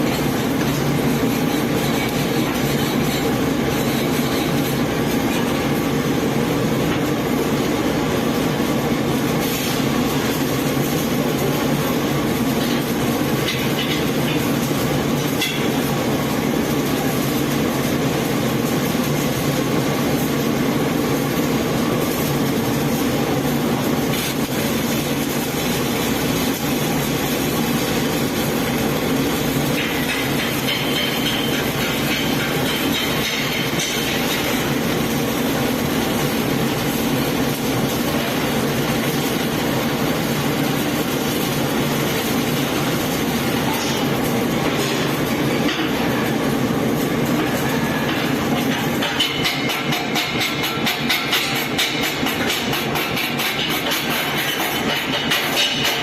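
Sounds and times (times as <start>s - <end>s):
welding power source humming: 0.0s - 56.0s.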